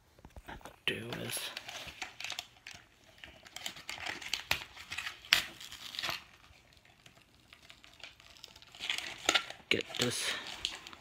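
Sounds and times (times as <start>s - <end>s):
rustling of handling: 0.0s - 11.0s.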